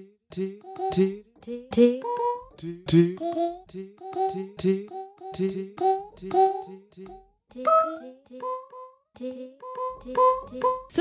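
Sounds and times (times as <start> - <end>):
chopped sampled vocal syllables: 0.0 - 11.0.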